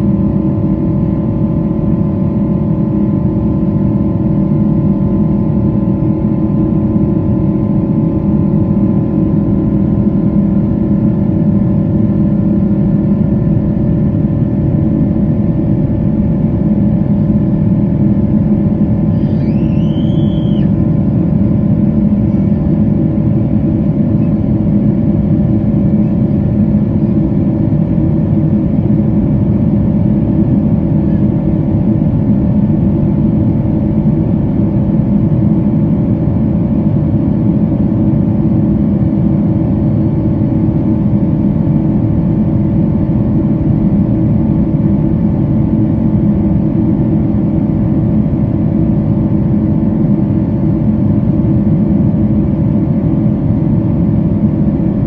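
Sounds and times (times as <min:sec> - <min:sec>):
jet engines rumbling with whine: 0:00.0 - 0:55.0.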